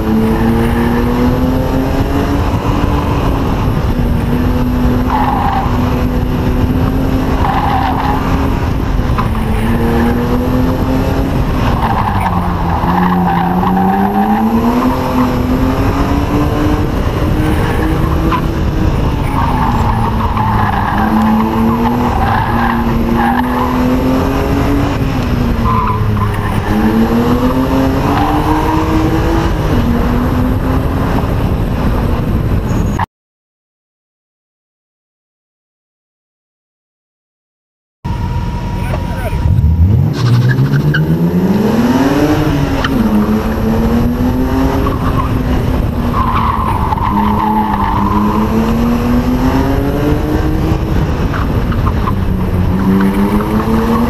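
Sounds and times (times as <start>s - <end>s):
car engine revving: 0.0s - 32.4s, 38.1s - 54.0s
tires squealing: 0.0s - 33.1s, 38.2s - 54.0s.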